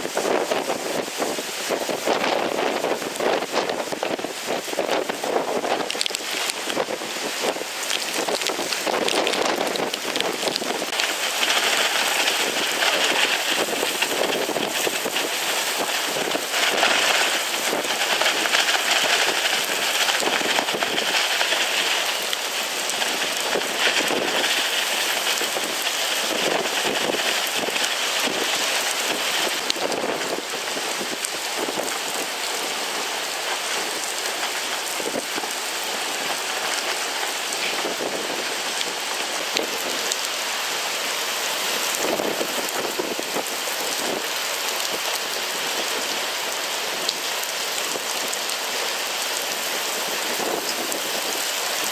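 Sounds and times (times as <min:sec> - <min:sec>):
wind-driven heavy rain: 0:00.0 - 0:51.9.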